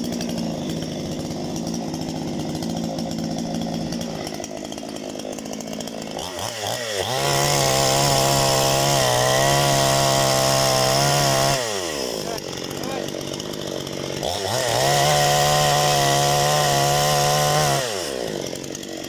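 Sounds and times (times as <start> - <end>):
chainsaw idling and revving: 0.0 - 19.0.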